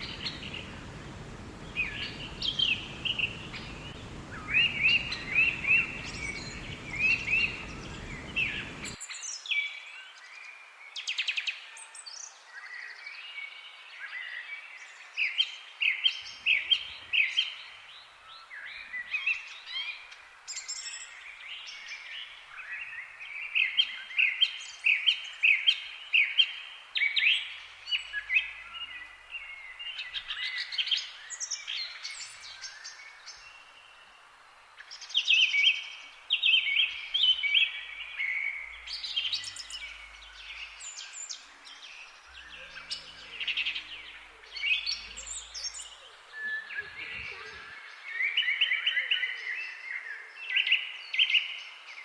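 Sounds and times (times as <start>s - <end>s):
faint steady hiss: 0.0s - 52.0s
songbirds chirping and trilling: 0.0s - 52.0s.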